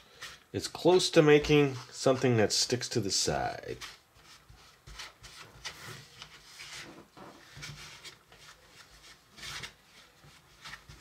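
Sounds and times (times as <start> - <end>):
wooden spoon scraping plastic bowl: 0.0 - 11.0.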